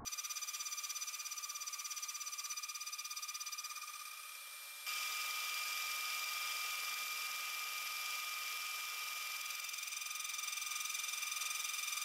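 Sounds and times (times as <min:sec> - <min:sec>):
milling spindle high whine: 0:00.0 - 0:12.0.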